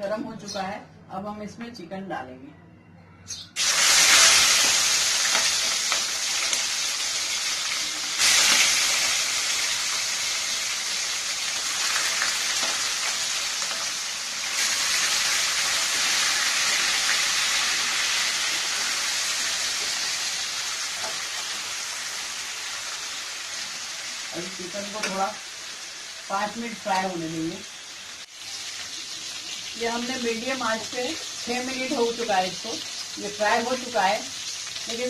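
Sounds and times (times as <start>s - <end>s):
chicken sizzling in hot oil: 3.6s - 35.0s.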